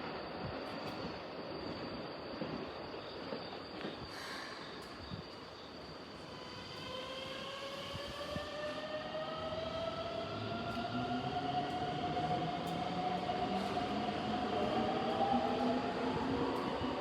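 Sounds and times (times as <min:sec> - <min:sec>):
train wheels rumbling on rail: 0:00.1 - 0:17.0.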